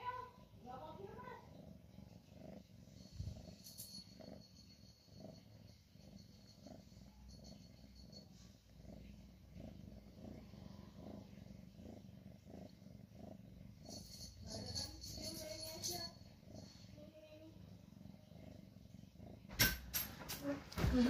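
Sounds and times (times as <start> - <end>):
cat purring faintly: 0.0 - 21.0.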